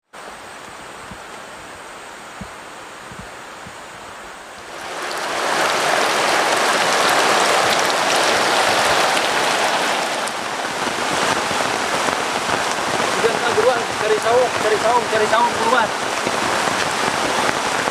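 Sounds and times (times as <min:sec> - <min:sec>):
heavy rain falling: 0:00.1 - 0:17.9.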